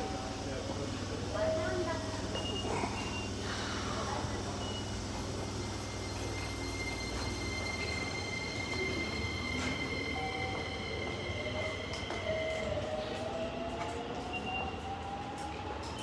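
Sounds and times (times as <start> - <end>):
train motor whine: 0.0 - 15.6
electric train moving: 0.0 - 16.0.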